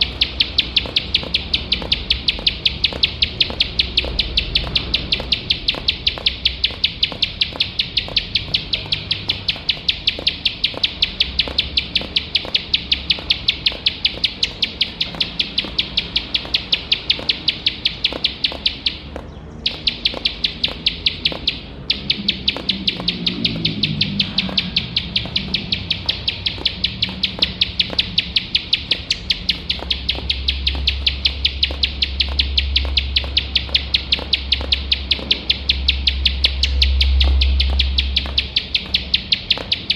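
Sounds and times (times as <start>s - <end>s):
bird calling high sharp notes: 0.0s - 39.9s.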